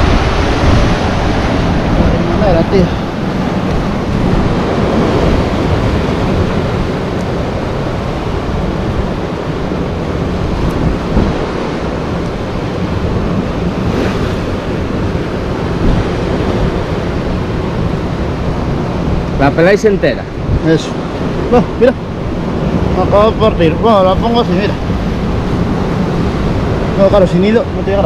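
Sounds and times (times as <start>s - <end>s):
surf washing on rocky shore: 0.0s - 28.0s
wind buffeting microphone: 0.0s - 28.0s.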